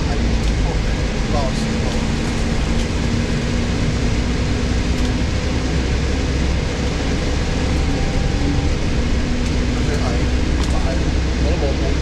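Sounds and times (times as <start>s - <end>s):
vehicle rumble from inside cabin: 0.0s - 12.0s.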